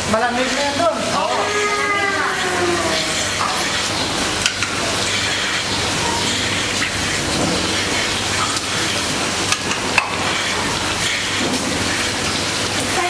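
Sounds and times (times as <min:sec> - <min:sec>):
rushing hiss of milking machinery: 0:00.1 - 0:04.2, 0:04.8 - 0:13.0.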